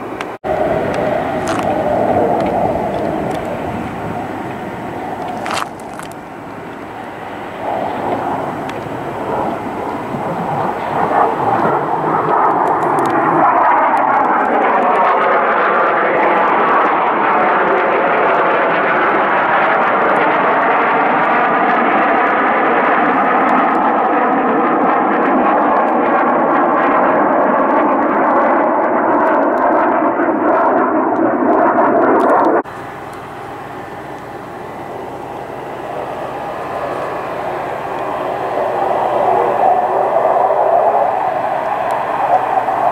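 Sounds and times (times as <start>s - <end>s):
fighter jets passing overhead: 0.0s - 42.9s.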